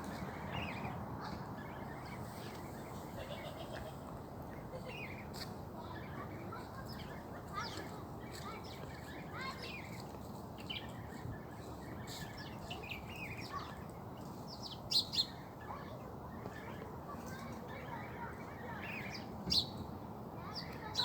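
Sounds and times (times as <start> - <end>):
low background noise: 0.0 - 21.0
small birds chirping: 0.0 - 21.0.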